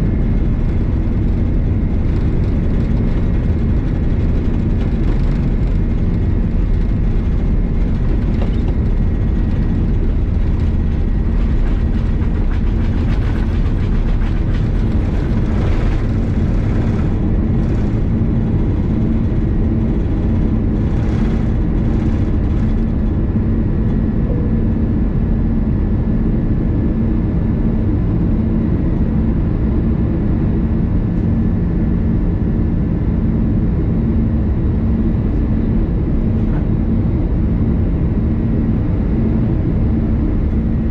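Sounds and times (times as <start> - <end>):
jet engines roaring in cabin: 0.0 - 40.9
pulsing low hum: 0.0 - 40.9.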